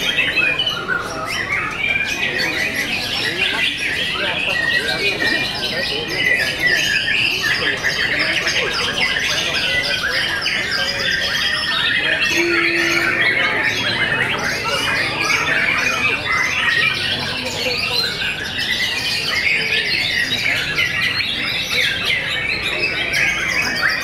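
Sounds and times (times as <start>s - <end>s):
birds singing in chorus: 0.0s - 24.0s.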